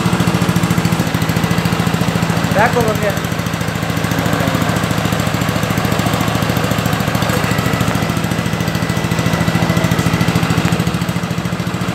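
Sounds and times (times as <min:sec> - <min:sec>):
lawn mower engine running: 0:00.0 - 0:11.9.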